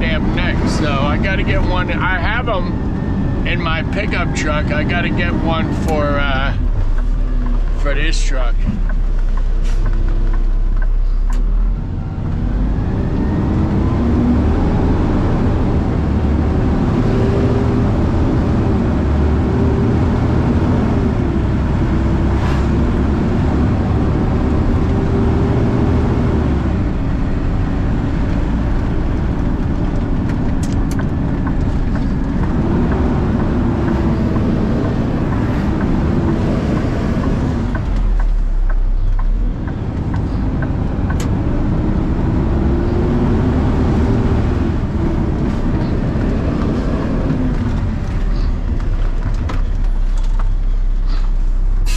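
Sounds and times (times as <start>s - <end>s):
road rumble: 0.0s - 51.9s
truck engine: 0.0s - 51.9s.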